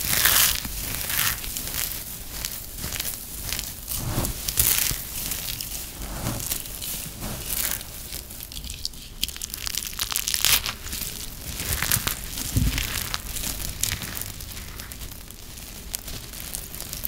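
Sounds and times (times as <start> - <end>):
dry soap crunching in hands: 0.0 - 17.0.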